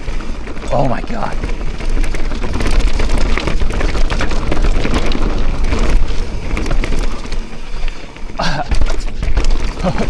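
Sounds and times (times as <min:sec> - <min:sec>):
bike rattling over rocky trail: 0:00.0 - 0:10.0
wind rumbling on microphone: 0:00.0 - 0:10.0.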